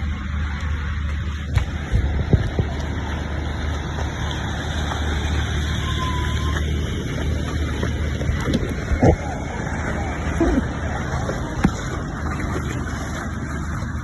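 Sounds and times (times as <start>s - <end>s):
low engine rumble: 0.0s - 14.0s
rain: 0.0s - 14.0s
road traffic: 0.0s - 14.0s.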